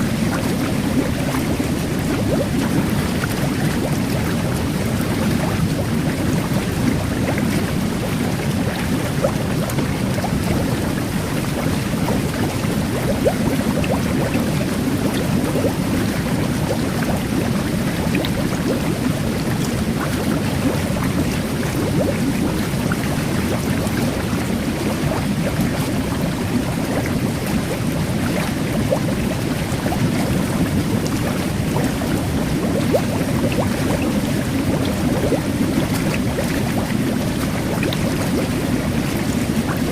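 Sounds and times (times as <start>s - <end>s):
bath jets churning water: 0.0s - 39.9s
bubbles fizzing: 0.0s - 39.9s.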